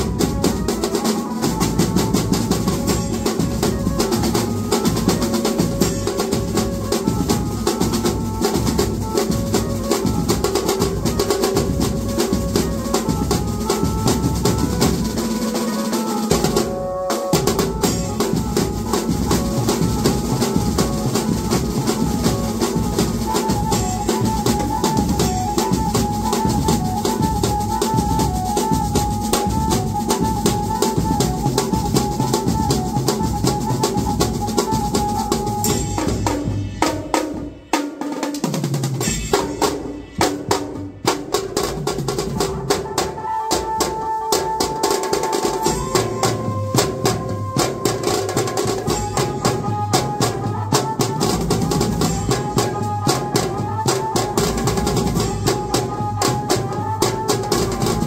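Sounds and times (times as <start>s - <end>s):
drum kits and dhol beat: 0.0s - 58.0s.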